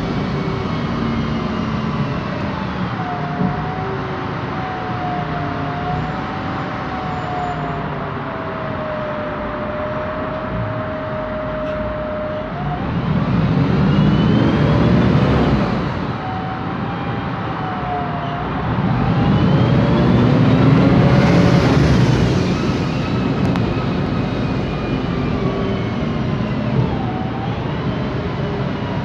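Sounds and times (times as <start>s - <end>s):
bus engine running: 0.0s - 29.0s.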